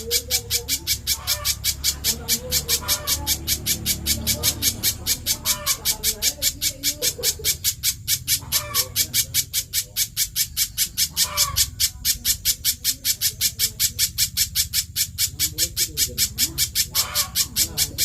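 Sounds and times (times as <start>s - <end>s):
bird calling rapid high chips: 0.0s - 18.0s.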